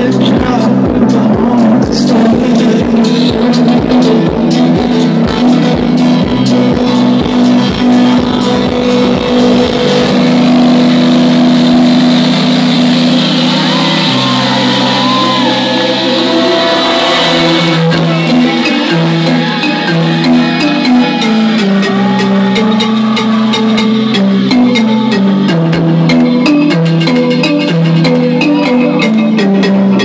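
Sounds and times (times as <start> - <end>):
held synth chords: 0.0 - 30.0
kick-drum beat: 0.0 - 30.0.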